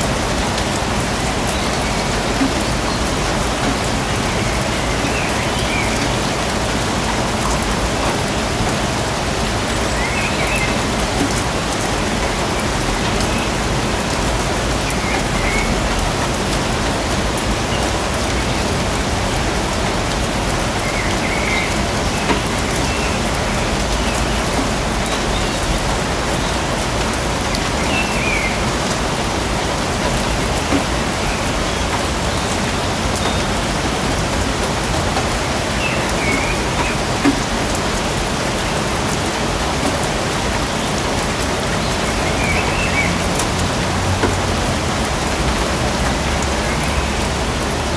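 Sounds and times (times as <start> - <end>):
steady rainfall: 0.0 - 47.9.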